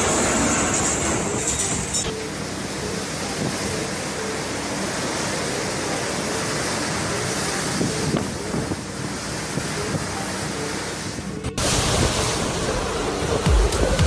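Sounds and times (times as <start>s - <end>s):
hurricane wind and driving rain: 0.0s - 14.0s.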